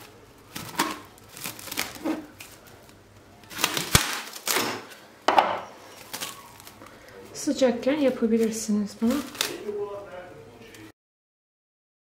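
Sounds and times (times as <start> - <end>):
cling film crinkling: 0.0 - 5.1, 5.8 - 10.9.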